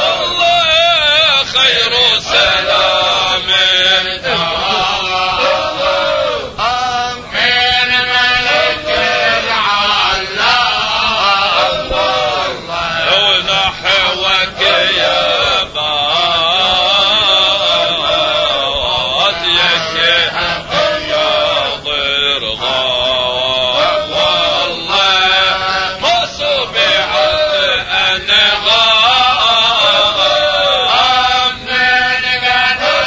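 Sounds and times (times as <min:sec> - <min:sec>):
men chanting: 0:00.0 - 0:33.0.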